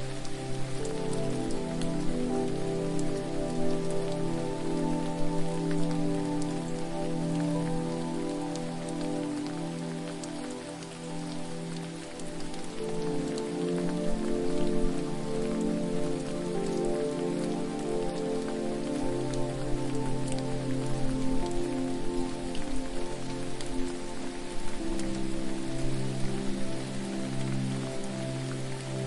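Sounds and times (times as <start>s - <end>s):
ambient music with held chords: 0.0s - 29.0s
water dripping: 0.0s - 29.0s.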